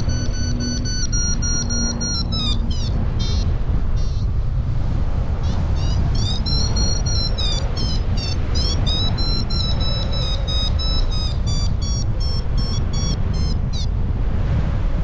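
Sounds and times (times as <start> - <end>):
variometer beeping: 0.0 - 4.5, 5.4 - 14.0
wind noise on microphone: 0.0 - 15.0.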